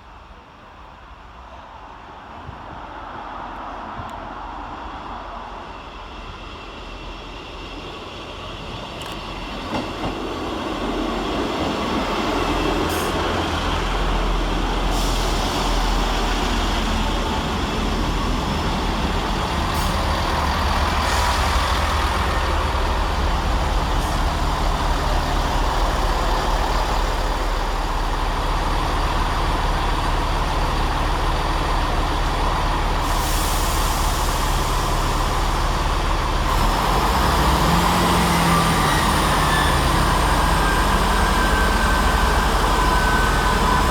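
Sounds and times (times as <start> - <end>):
diesel train running: 0.1 - 43.9.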